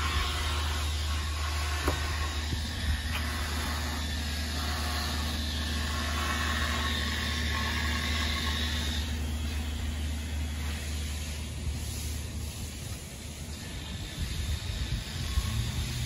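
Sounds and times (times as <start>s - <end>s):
faint high whining tones: 0.0s - 16.0s
motor humming: 0.0s - 16.0s.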